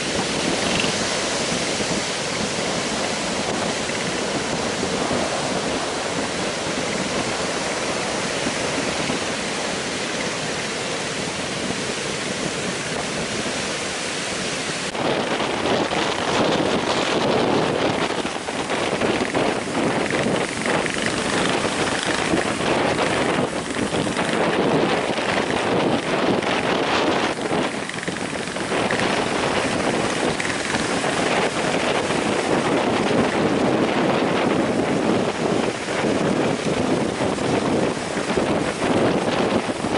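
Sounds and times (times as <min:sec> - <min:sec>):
heavy surf breaking: 0:00.0 - 0:39.9
wind buffeting microphone: 0:00.0 - 0:39.9.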